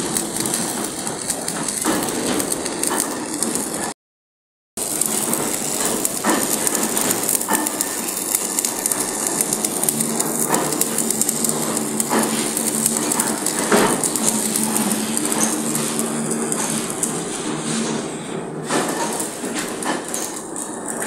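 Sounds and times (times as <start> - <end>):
sharp welding pops: 0.0 - 3.9, 4.8 - 21.0
welding arc crackling and sizzling: 0.0 - 4.0, 4.8 - 21.0.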